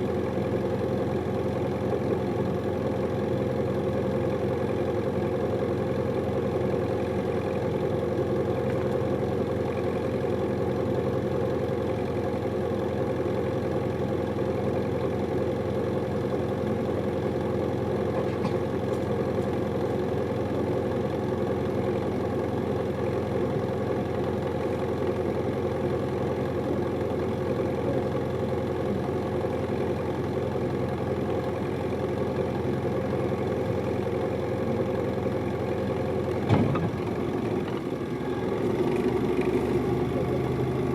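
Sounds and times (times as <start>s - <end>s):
bus diesel engine idling: 0.0s - 40.9s.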